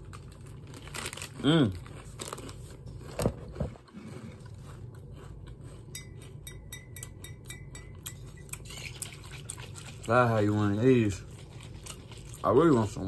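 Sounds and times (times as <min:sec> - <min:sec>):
chewing crunchy chips: 0:00.0 - 0:06.4, 0:07.9 - 0:13.0.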